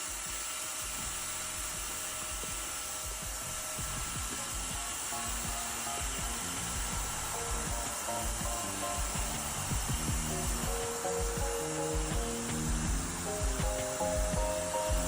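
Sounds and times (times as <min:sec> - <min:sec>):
steady hiss: 0:00.0 - 0:15.0
faint musical notes: 0:00.1 - 0:15.0
low thuds: 0:01.0 - 0:15.0.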